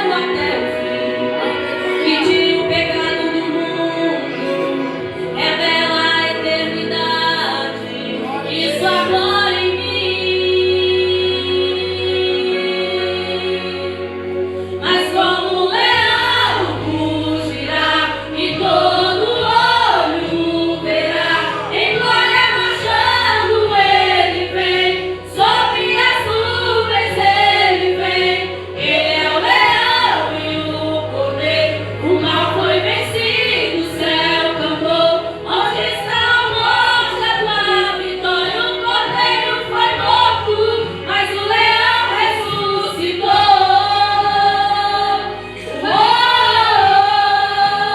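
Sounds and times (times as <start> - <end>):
choir backing voices: 0.0 - 47.9
person singing gospel song: 0.0 - 47.9
sustained keyboard and bass: 0.0 - 47.9.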